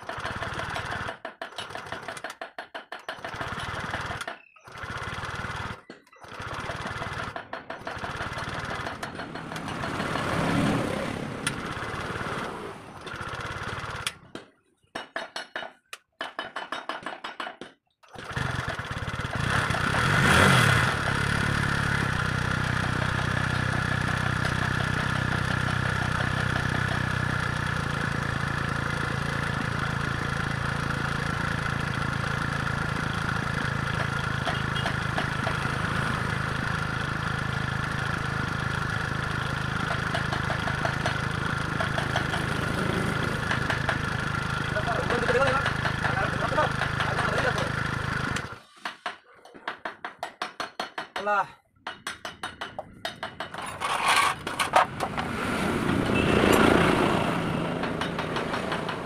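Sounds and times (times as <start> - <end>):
motorcycle engine starting and idling: 0.0 - 14.4, 18.1 - 48.7, 53.0 - 59.0.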